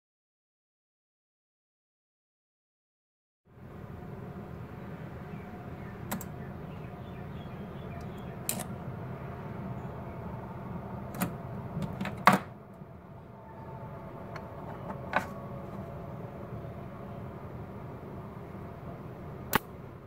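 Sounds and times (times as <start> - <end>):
low hum: 3.5 - 20.0.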